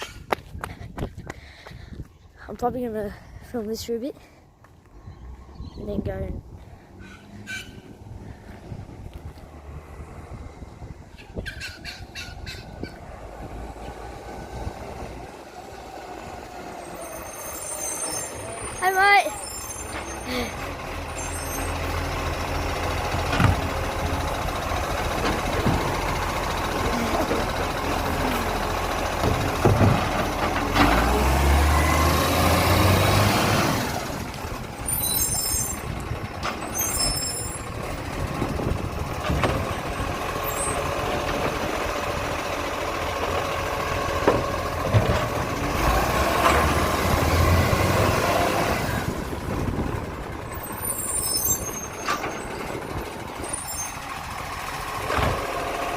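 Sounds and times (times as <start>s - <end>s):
truck diesel engine revving: 7.3s - 11.0s, 12.7s - 55.9s.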